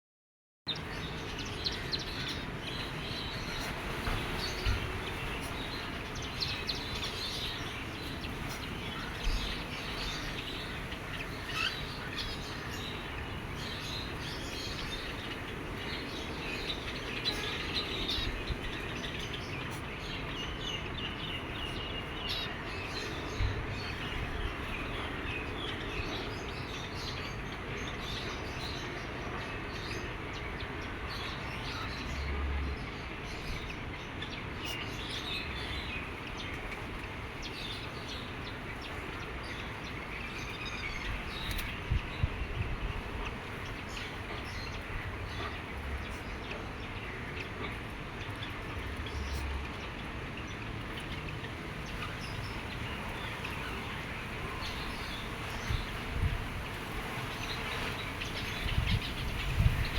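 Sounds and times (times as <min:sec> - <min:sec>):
steady background hiss: 0:00.8 - 0:59.9.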